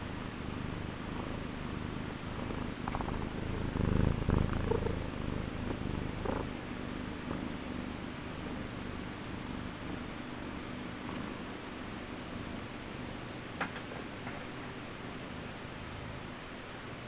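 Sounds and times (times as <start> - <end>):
cat purring: 0.0 - 16.7.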